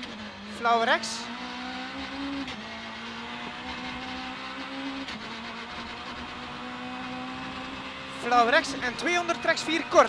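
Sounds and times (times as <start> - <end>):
gear upshifts: 0.0 - 10.0
rally car engine at high revs: 0.0 - 10.0.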